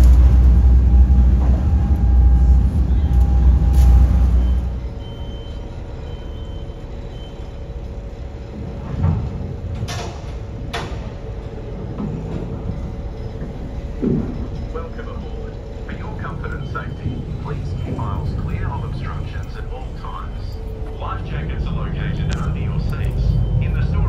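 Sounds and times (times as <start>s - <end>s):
ferry engine hum: 0.0s - 24.0s.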